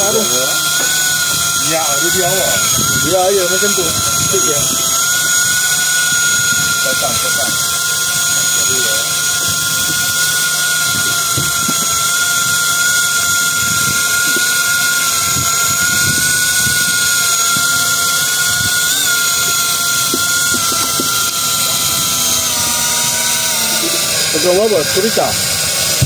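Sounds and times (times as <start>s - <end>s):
electric fishing reel whining: 0.0s - 26.0s.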